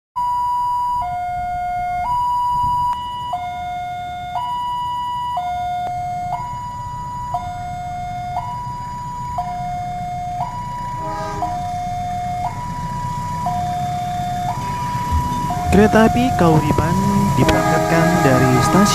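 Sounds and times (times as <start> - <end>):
low rumble of traffic: 0.2 - 18.9
two-tone crossing warning alarm: 0.2 - 18.9.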